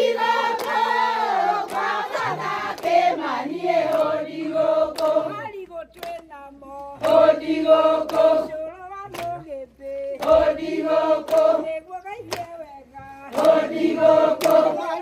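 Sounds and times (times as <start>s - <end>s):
hands clapping: 0.0s - 15.0s
women singing a chant: 0.0s - 15.0s.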